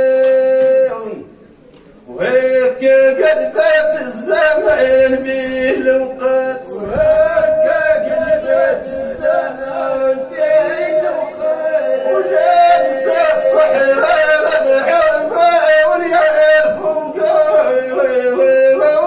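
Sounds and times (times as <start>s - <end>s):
men chanting: 0.0s - 1.2s, 2.1s - 19.0s
lead voice singing ornamented lines: 2.2s - 19.0s
steady held vocal note: 3.4s - 19.0s.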